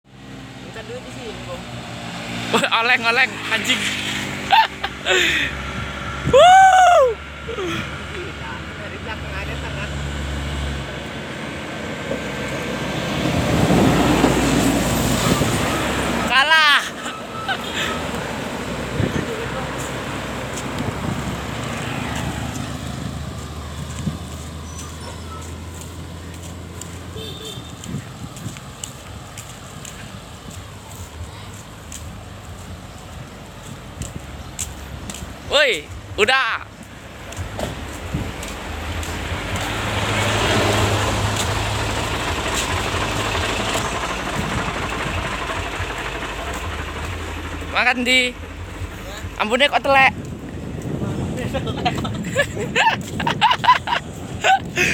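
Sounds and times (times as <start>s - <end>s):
road noise: 0.0s - 54.9s
truck engine running: 7.1s - 54.9s.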